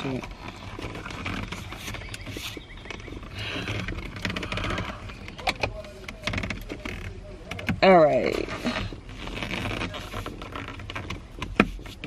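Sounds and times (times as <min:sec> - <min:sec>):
cover scraping on steering wheel: 0:00.0 - 0:12.0
small clicks and knocks: 0:00.2 - 0:12.0.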